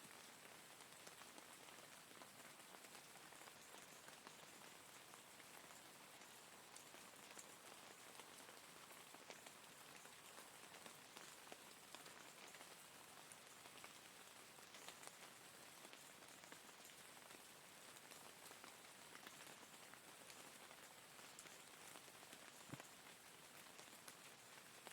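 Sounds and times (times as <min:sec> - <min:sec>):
faint steady rain: 0:00.0 - 0:24.9
raindrops ticking: 0:02.2 - 0:17.4, 0:18.0 - 0:24.8.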